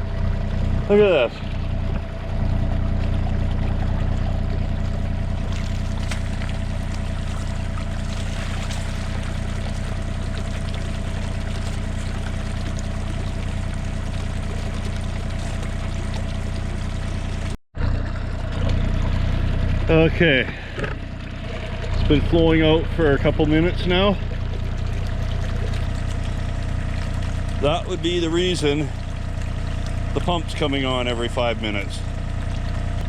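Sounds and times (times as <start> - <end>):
excavator diesel engine idling: 0.0 - 33.0
water pouring from drain pipe: 0.0 - 33.0.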